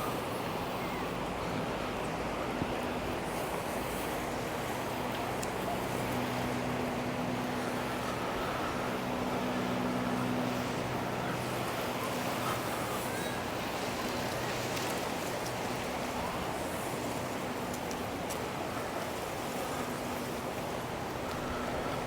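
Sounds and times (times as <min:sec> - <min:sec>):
low engine hum: 0:00.0 - 0:22.0
surf washing ashore: 0:00.0 - 0:22.0.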